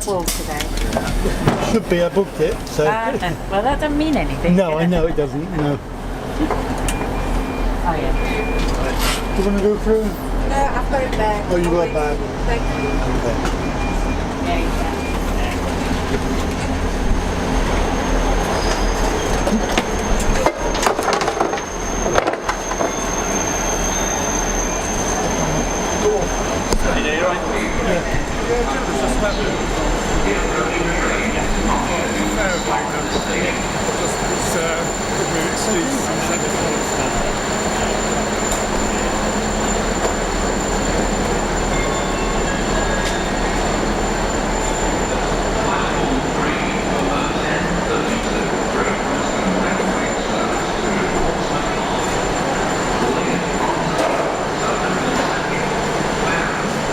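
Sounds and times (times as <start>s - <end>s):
train rumbling: 0.0s - 56.9s.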